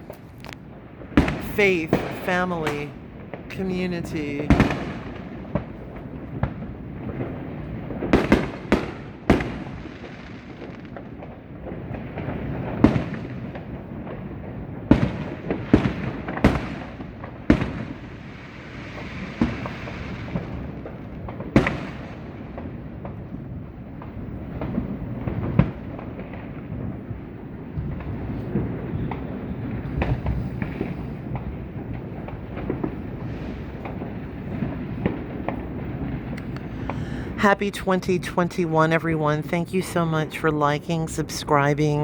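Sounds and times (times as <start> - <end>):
distant firework pops: 0.0 - 3.4, 4.5 - 37.0
firecracker bangs: 0.0 - 37.6.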